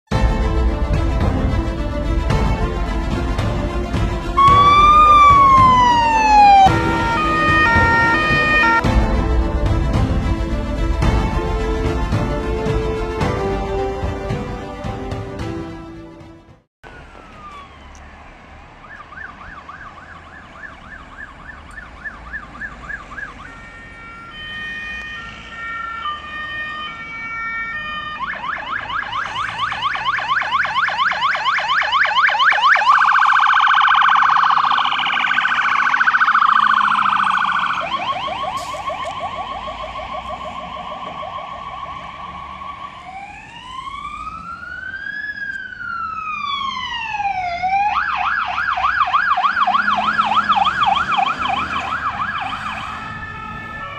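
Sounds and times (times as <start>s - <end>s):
fire engine siren: 0.1s - 16.0s, 16.8s - 53.9s.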